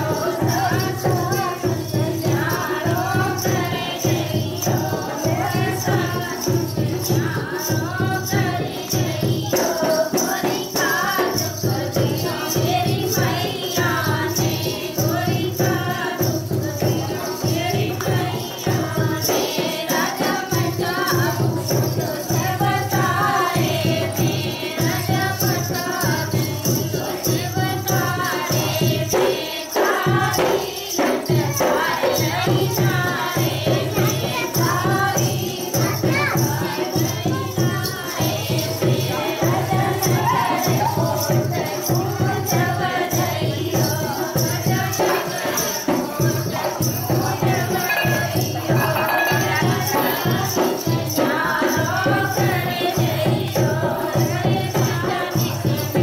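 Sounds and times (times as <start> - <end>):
steady drum beat: 0.0 - 56.0
women singing folk song: 0.0 - 56.0.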